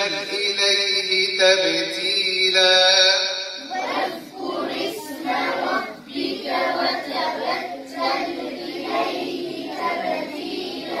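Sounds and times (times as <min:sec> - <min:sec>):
group chanting recitation in unison: 0:00.0 - 0:11.0.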